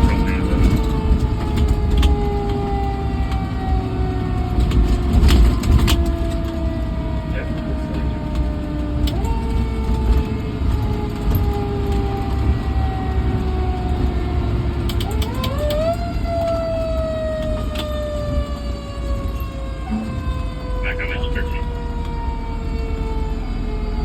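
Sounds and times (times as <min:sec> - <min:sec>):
fire truck siren: 0:00.0 - 0:24.0
truck engine rumble: 0:00.0 - 0:24.0.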